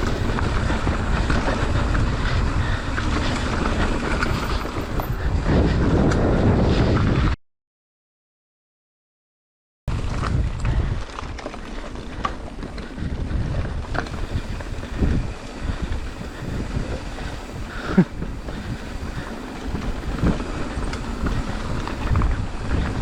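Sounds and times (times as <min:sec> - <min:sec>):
bike rattling and knocking: 0:00.0 - 0:07.0, 0:09.9 - 0:23.0
bike tyre noise: 0:00.0 - 0:07.4, 0:09.9 - 0:23.0
wind rumbling on microphone: 0:00.0 - 0:07.4, 0:09.9 - 0:23.0.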